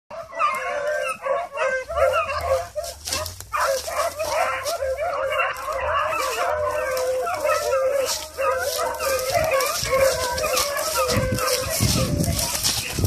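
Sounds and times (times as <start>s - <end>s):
hounds baying and yipping: 0.1s - 13.0s.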